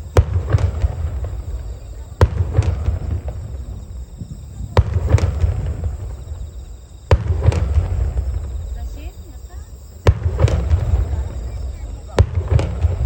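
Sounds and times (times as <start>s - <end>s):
fireworks bangs: 0.0s - 13.0s
fireworks rumble and crackle: 0.0s - 13.0s.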